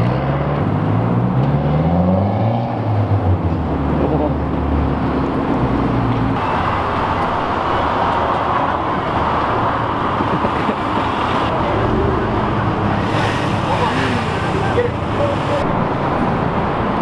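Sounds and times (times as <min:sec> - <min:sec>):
car engines and traffic noise: 0:00.0 - 0:17.0.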